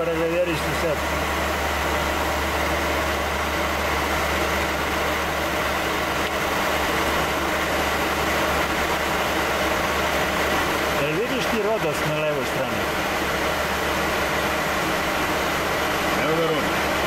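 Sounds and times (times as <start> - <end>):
airflow rushing in cabin: 0.0 - 17.0
low jet engine hum: 0.0 - 17.0.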